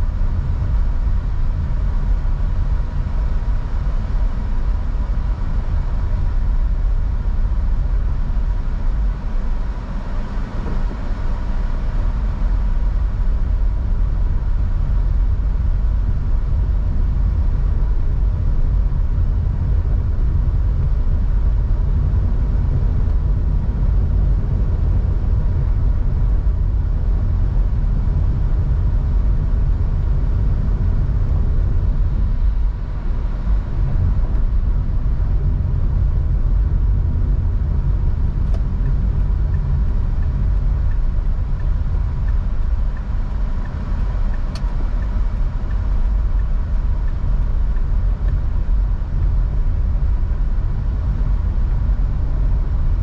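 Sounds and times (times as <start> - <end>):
road and engine rumble: 0.0 - 53.0.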